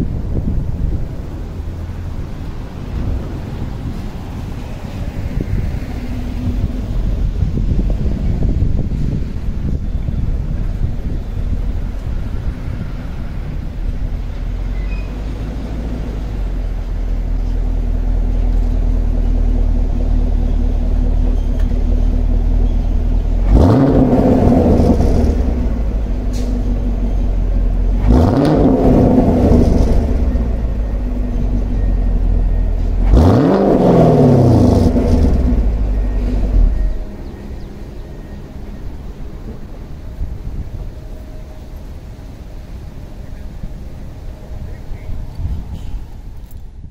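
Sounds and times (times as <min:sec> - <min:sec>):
car engine idling and revving: 0:00.0 - 0:46.9.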